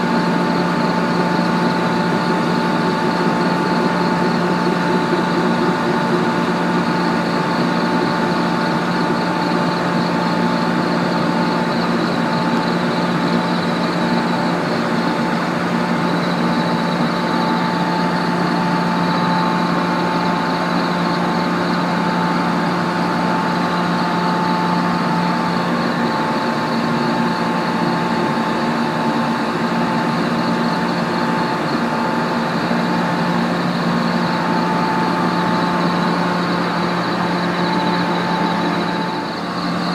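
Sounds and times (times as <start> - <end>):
electric train humming: 0.0 - 39.9.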